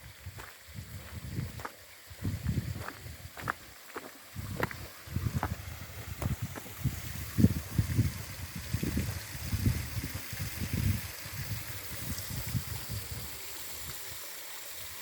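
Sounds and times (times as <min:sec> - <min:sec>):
wind buffeting microphone: 0:00.2 - 0:03.6, 0:04.3 - 0:13.3.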